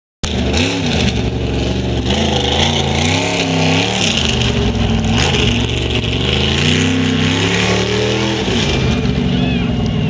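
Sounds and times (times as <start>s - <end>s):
truck engine revving hard: 0.2s - 10.0s.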